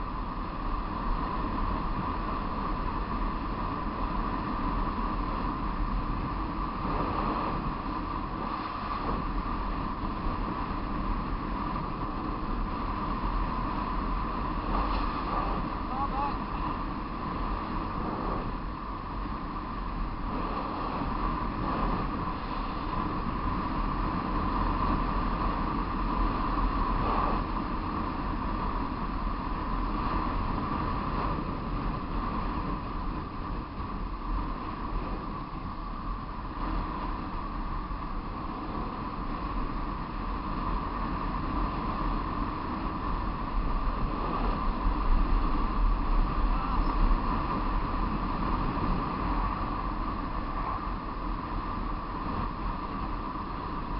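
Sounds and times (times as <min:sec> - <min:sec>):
vehicle road noise: 0:00.0 - 0:53.9
wind rush over microphone: 0:00.0 - 0:53.9.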